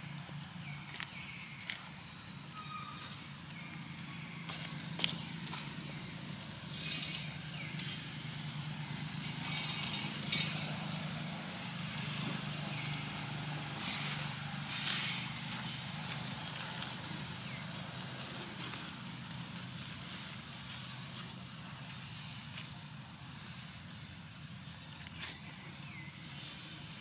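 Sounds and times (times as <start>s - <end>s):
vehicle engine running: 3.2s - 27.0s.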